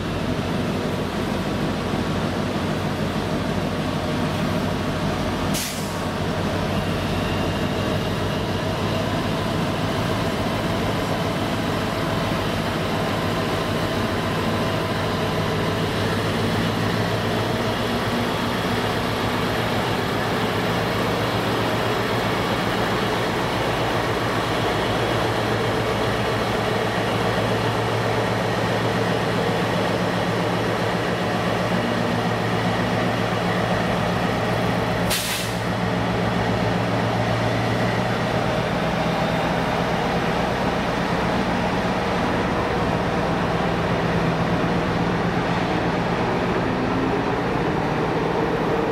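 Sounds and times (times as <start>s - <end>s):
diesel locomotive engine running: 0.0s - 48.9s.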